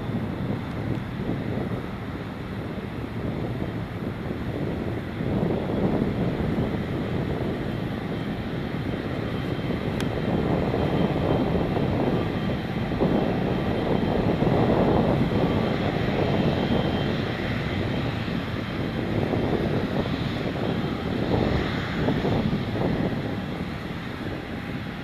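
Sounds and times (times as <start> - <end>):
jet engine roar: 0.0 - 25.0.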